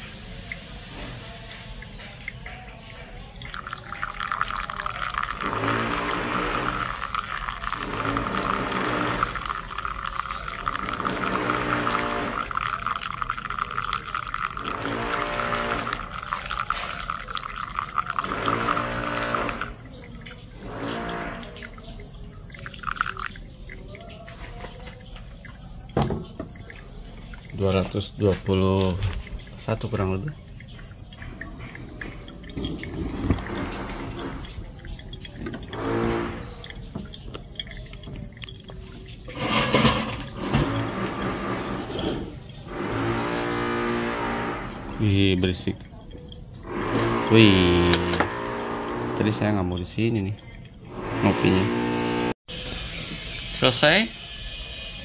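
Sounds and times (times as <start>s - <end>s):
water pouring onto coffee grounds: 0.0s - 55.0s.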